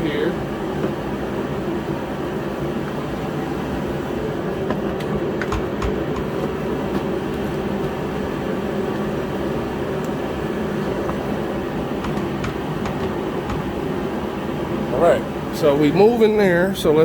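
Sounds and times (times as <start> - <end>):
space heater droning: 0.0 - 17.0.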